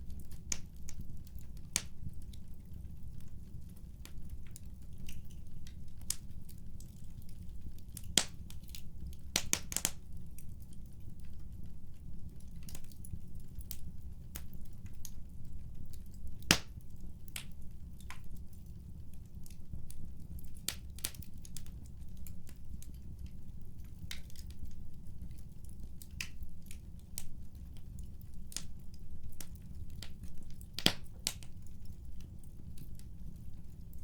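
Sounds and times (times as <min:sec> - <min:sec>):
fire snapping and popping: 0:00.0 - 0:34.0
wood fire crackling: 0:00.0 - 0:34.0.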